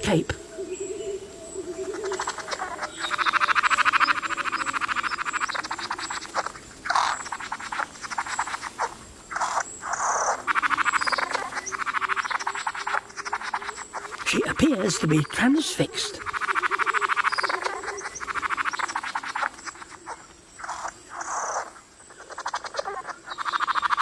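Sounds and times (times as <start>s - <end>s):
bird rattling buzzing call: 1.9s - 14.9s, 16.1s - 24.0s.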